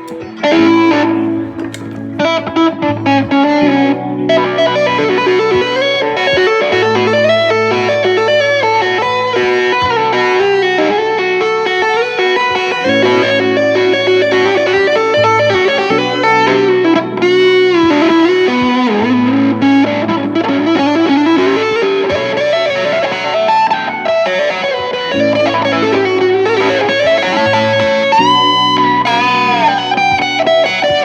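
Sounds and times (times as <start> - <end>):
electric guitar lead lines: 0.0 - 31.0.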